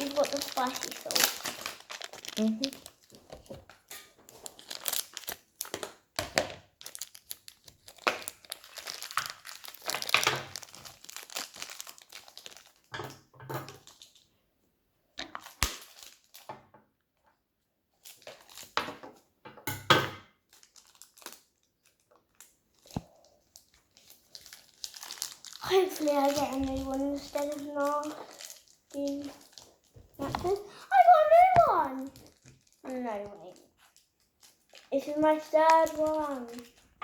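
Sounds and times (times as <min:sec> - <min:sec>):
plastic packaging crinkling: 0:00.0 - 0:13.0, 0:13.7 - 0:14.2, 0:15.4 - 0:16.5, 0:18.0 - 0:18.8, 0:20.5 - 0:37.0.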